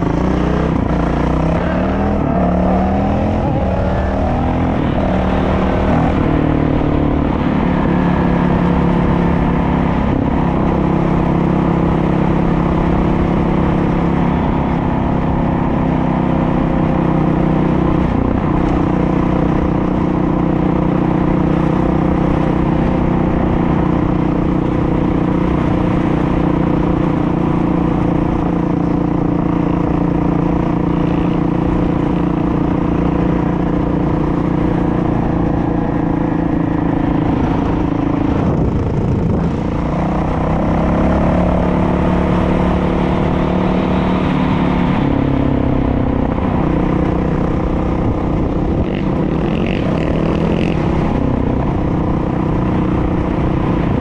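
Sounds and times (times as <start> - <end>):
dirt bike engine running: 0.0 - 54.0
wind on microphone: 0.0 - 54.0.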